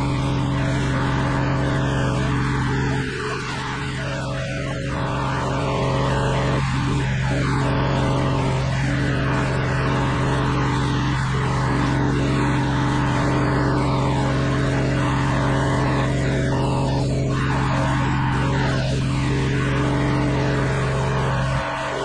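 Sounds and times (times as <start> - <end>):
pressure washer engine hum: 0.0 - 22.0.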